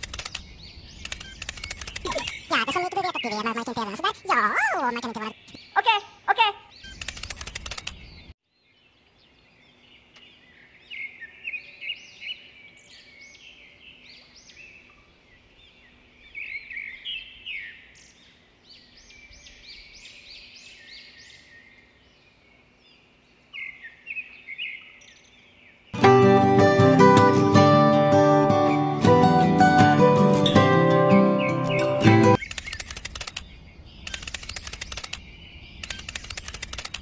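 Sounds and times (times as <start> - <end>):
small birds chirping: 0.0 - 26.1, 28.4 - 37.0.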